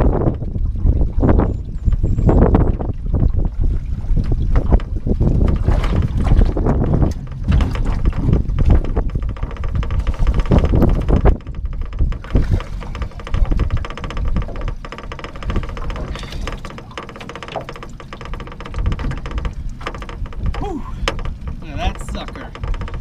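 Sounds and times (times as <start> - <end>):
knocks in aluminium boat: 0.0 - 23.0.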